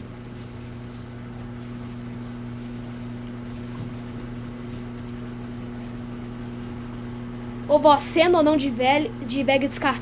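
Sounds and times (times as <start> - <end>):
washing machine humming: 0.0 - 10.0.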